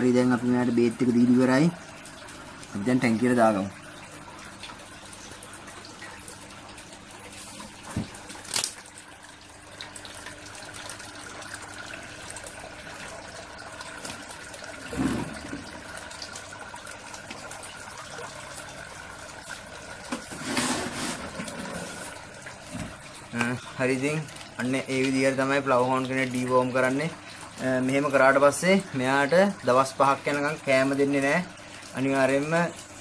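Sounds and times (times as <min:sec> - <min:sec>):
water trickling and splashing: 0:00.0 - 0:33.0.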